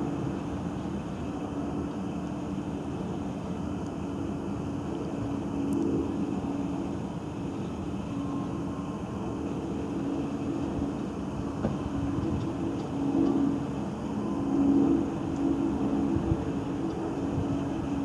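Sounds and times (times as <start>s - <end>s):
distant vehicle rumble: 0.0s - 18.0s.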